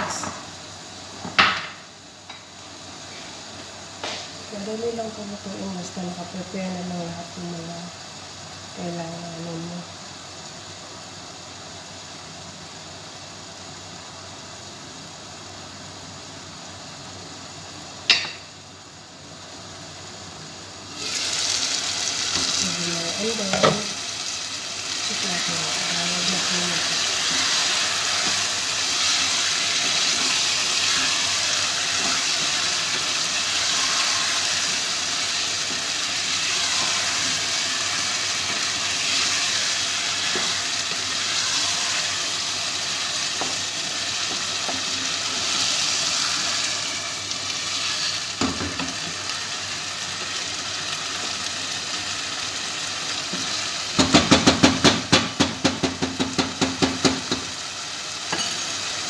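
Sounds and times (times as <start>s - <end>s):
chicken sizzling in a pot: 0.0s - 59.0s.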